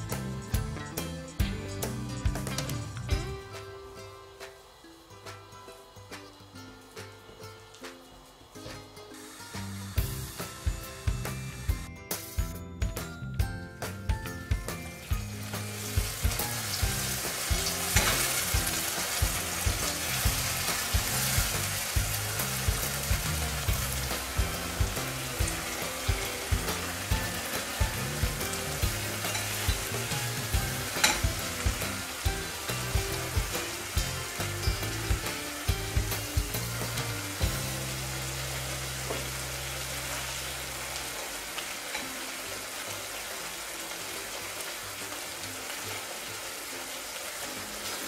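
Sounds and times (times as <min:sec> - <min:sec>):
background music with beat: 0:00.0 - 0:39.5
tomatoes sizzling in oil: 0:00.0 - 0:48.0.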